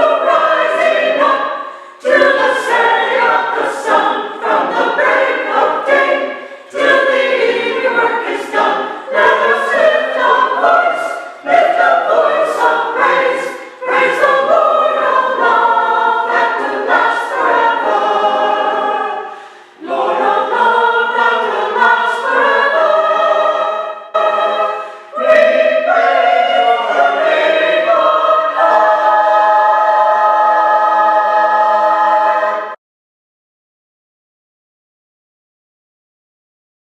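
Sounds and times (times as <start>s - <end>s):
choir singing: 0.0s - 32.8s.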